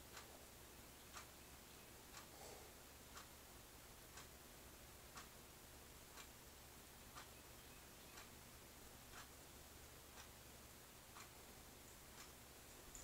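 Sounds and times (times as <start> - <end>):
clock ticking: 0.0 - 13.0
room hiss: 0.0 - 13.0.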